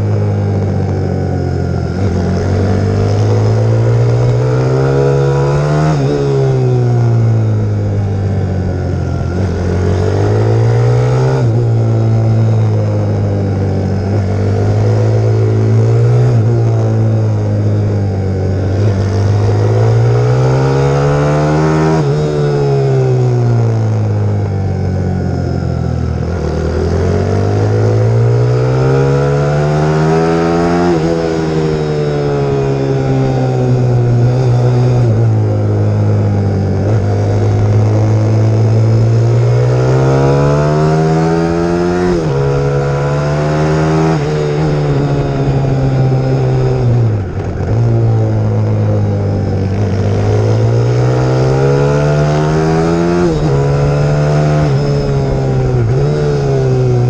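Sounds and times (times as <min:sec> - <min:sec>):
pit bike engine revving: 0:00.6 - 0:24.0, 0:25.9 - 0:57.0.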